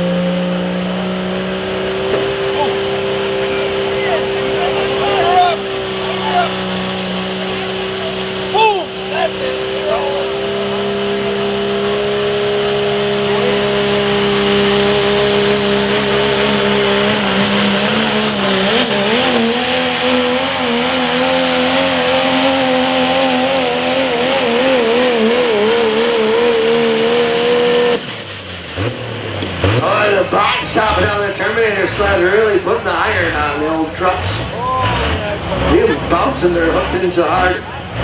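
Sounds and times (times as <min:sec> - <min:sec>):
diesel truck engine at full throttle: 0:00.0 - 0:38.0.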